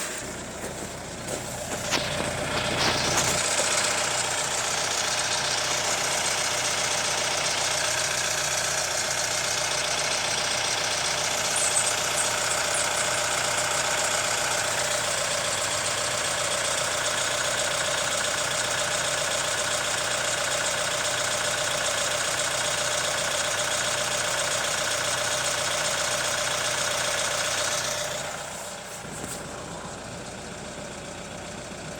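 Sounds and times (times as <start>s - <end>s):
diesel engine idling with a knock: 0.0s - 31.9s.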